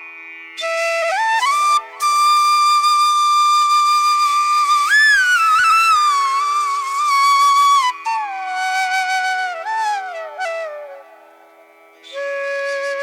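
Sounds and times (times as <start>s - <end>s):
flute melody with sliding notes: 0.6s - 11.3s, 12.1s - 13.0s.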